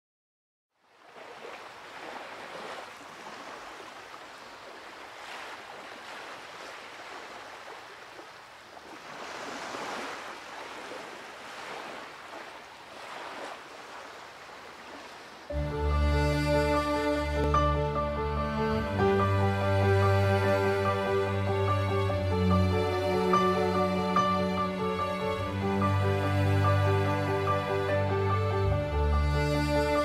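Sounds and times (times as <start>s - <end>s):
sea waves washing: 0.9s - 30.0s.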